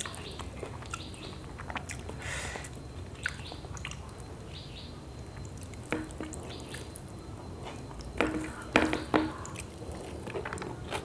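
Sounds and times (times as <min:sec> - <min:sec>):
person chewing food: 0:00.0 - 0:04.4, 0:05.2 - 0:11.0.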